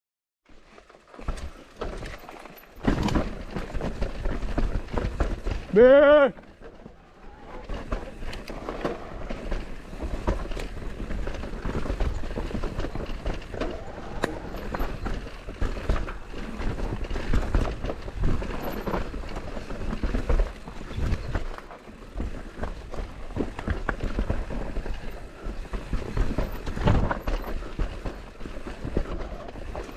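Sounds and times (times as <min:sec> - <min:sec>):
bike rattling over bumps: 0:00.5 - 0:29.9
tyres rolling over dirt: 0:00.5 - 0:29.9.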